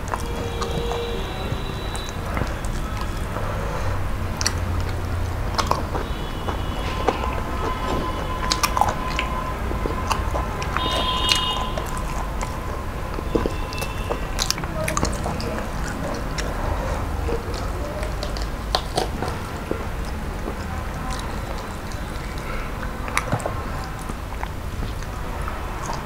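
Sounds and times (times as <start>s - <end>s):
close-up chewing and biting: 0.0s - 26.0s
wet mouth clicks and smacks: 1.7s - 26.0s.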